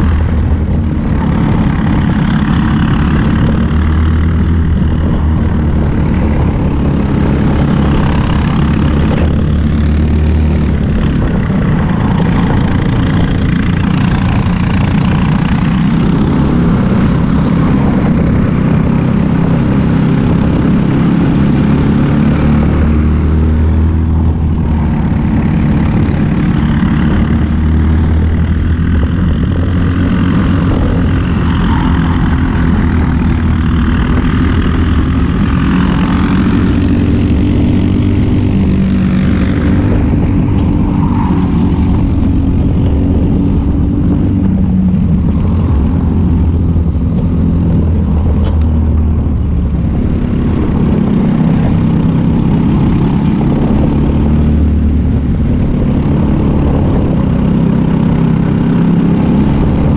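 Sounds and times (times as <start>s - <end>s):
buzzing kart engine: 0.0s - 59.9s
second kart engine ahead: 0.0s - 59.9s.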